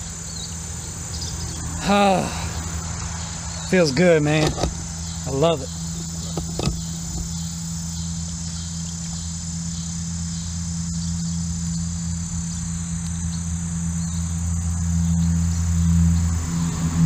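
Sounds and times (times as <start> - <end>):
high-pitched insect chorus: 0.0 - 17.0
traffic drone: 0.0 - 17.0.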